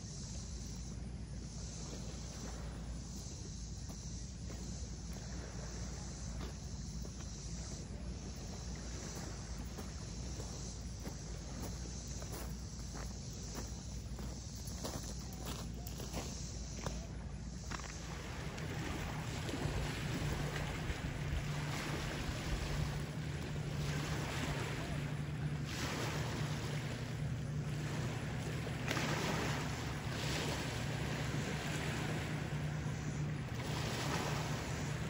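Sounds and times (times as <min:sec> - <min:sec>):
steady low hum: 0:00.0 - 0:35.0
waves lapping on rocky shore: 0:00.0 - 0:35.0.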